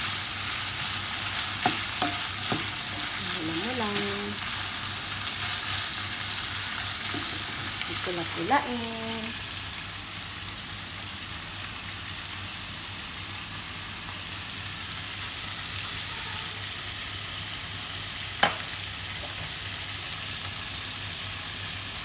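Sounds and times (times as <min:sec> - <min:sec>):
chicken sizzling in a frying pan: 0:00.0 - 0:22.0.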